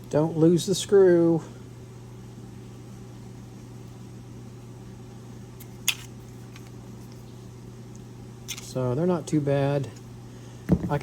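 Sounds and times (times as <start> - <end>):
fan or motor humming: 0.0 - 11.0.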